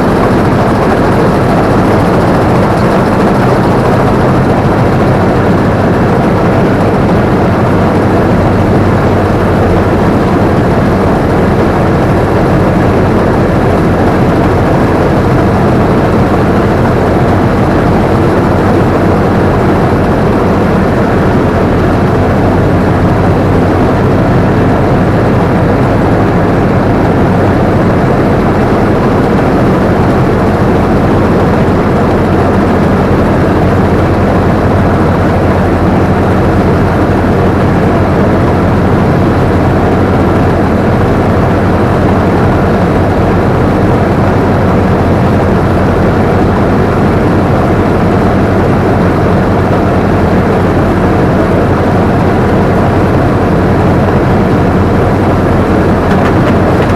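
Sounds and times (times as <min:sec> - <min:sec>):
combine harvester engine drone: 0:00.0 - 0:56.9.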